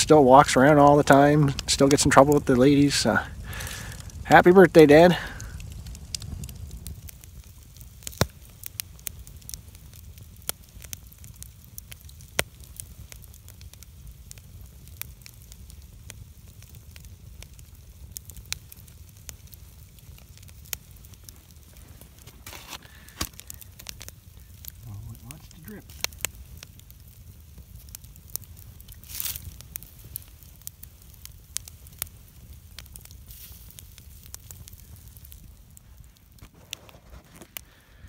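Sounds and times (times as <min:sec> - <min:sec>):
campfire crackling and popping: 0:00.0 - 0:38.0
low rumble of flames: 0:00.0 - 0:38.0.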